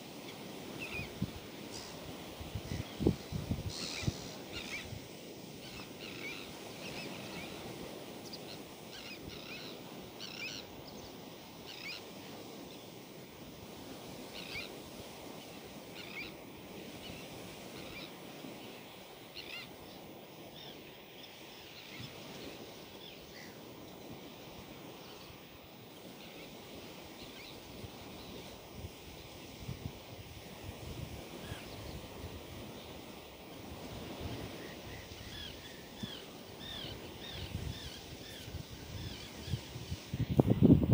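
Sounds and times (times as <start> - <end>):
sea surf washing on shore: 0.0 - 40.9.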